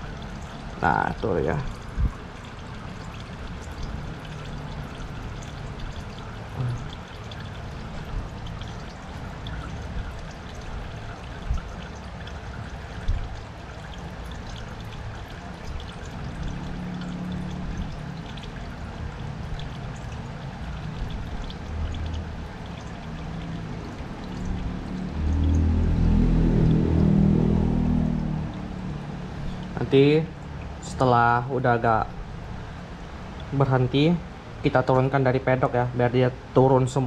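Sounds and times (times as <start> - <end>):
engine oil pouring: 0.0 - 37.0.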